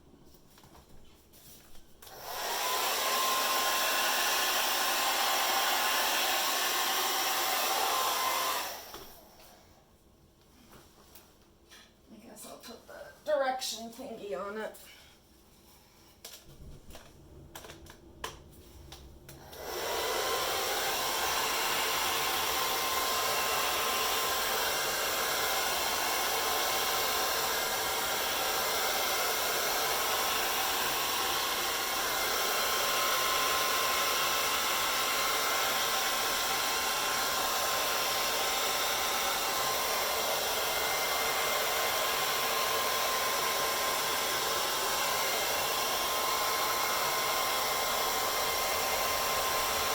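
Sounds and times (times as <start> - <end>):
hair dryer running: 2.0 - 9.6, 16.9 - 49.9.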